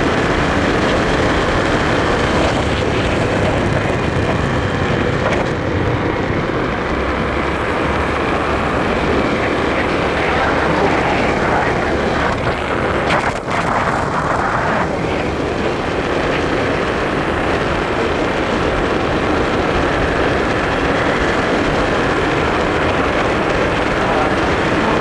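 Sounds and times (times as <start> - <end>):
scooter engine running: 0.0 - 25.0
wind and road noise: 0.0 - 25.0.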